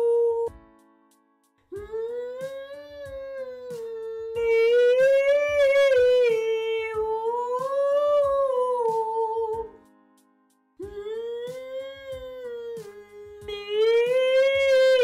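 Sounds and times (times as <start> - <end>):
woman singing vocal warm-up: 1.8 - 9.8, 10.8 - 15.0.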